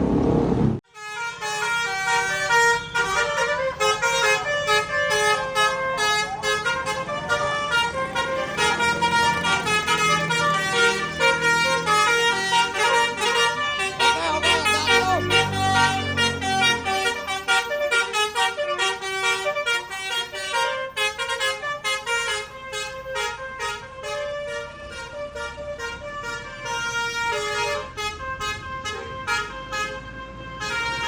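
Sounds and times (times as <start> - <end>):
multi-tone musical bus horn: 0.7 - 31.0.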